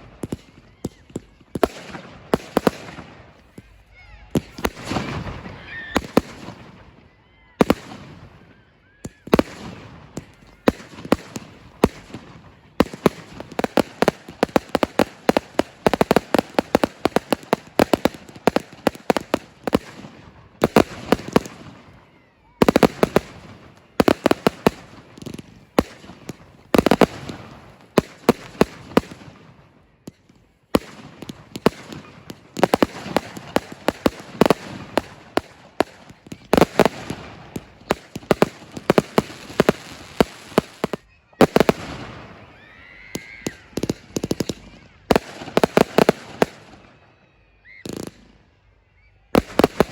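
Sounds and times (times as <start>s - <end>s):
fireworks bangs and crackles: 0.0s - 48.6s, 49.3s - 49.9s.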